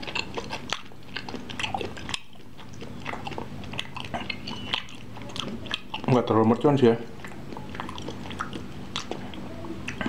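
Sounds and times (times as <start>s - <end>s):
chewing with mouth clicks: 0.0s - 10.0s.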